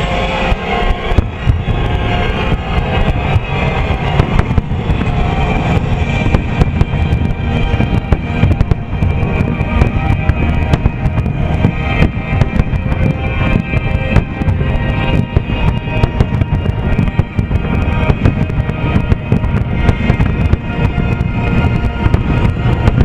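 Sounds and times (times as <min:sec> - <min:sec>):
loud music: 0:00.0 - 0:23.0.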